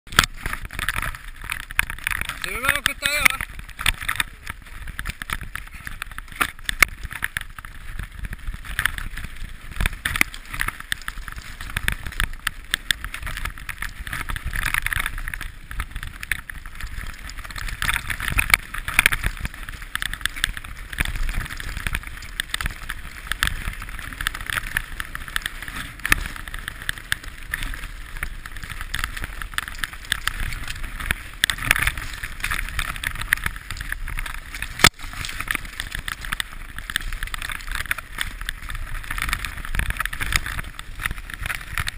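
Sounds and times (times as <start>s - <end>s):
bike rattling over stones: 0.1s - 41.9s
tyre noise: 0.1s - 41.9s
wind noise: 0.1s - 41.9s.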